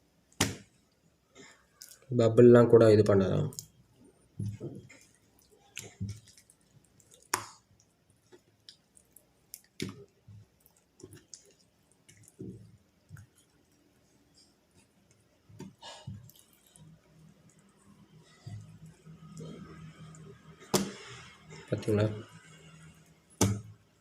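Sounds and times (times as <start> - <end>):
slime squelching: 0.2 - 2.1, 3.0 - 24.0.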